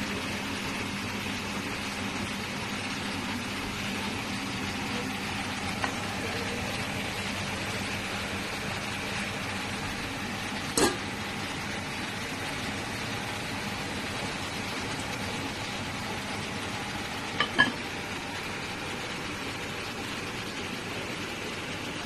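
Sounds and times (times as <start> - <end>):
mechanical hum and hiss: 0.0 - 22.0.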